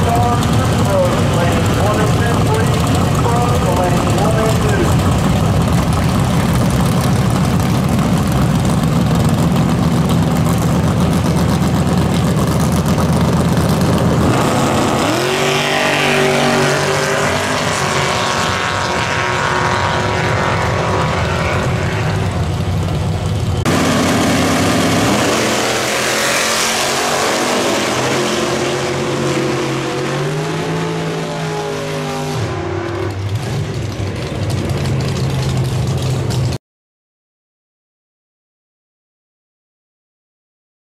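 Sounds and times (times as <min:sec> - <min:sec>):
drag racing cars accelerating: 0:00.0 - 0:36.6.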